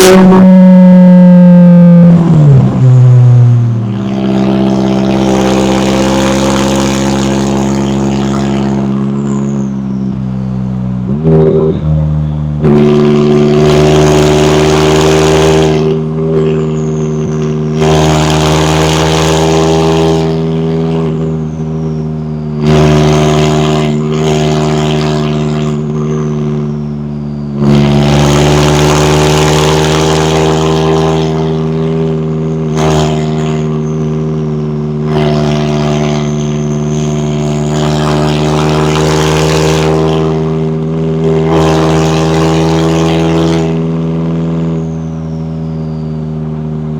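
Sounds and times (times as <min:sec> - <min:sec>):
faint falling turbo whistle: 0:00.0 - 0:46.5
car engine revving: 0:00.0 - 0:46.9.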